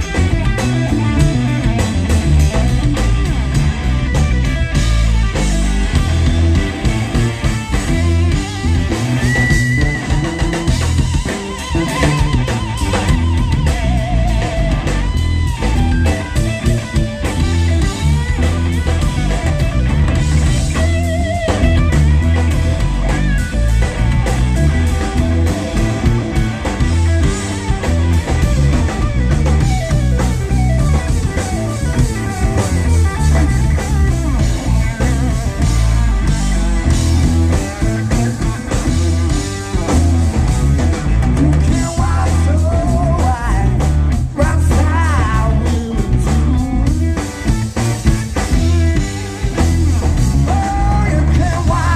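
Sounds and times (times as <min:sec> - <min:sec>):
bass: 0:00.0 - 0:51.9
drum kit: 0:00.0 - 0:51.9
electric guitar lead: 0:00.0 - 0:51.9.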